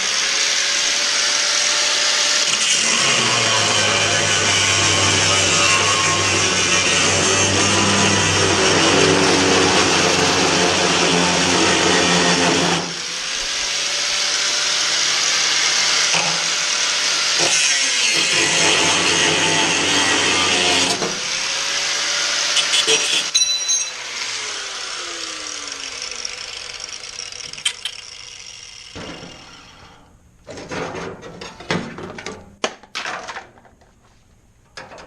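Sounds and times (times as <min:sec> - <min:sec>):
angle grinder grinding steel: 0:00.0 - 0:30.1.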